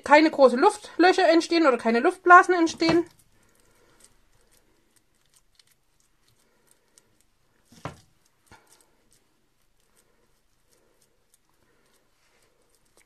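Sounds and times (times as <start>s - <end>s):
minced meat squishing: 1.8s - 13.0s.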